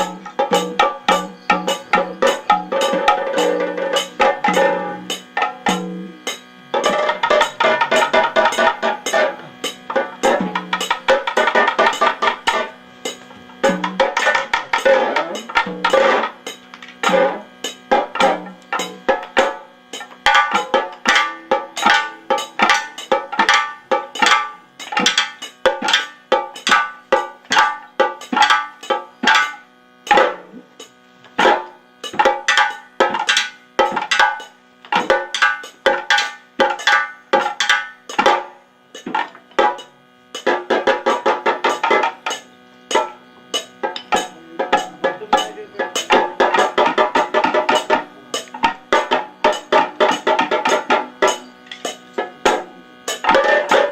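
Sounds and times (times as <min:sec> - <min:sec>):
quick drum strokes: 0:00.0 - 0:53.9
steady ringing tones: 0:00.0 - 0:53.9.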